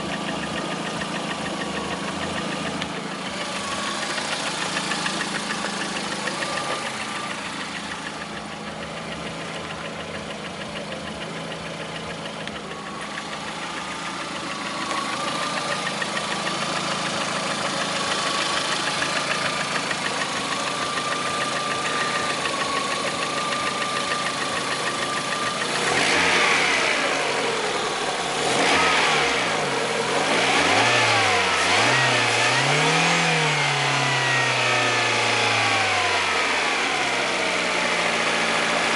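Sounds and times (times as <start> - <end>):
car engine idling with ticking knock: 0.0 - 38.9
engine revving: 0.0 - 38.9.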